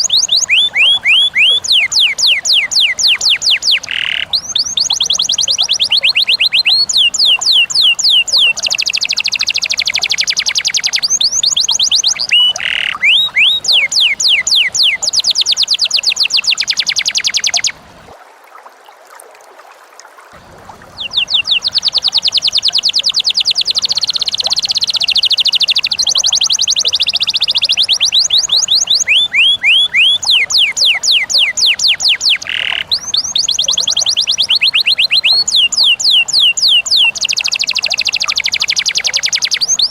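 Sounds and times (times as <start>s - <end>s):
lovebird chattering: 0.0s - 17.8s, 20.9s - 39.9s.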